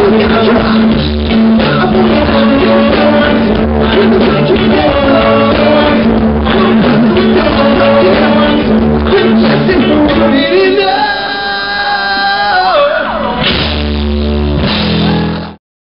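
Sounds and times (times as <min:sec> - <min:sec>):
live band with horns and guitars: 0:00.0 - 0:15.6.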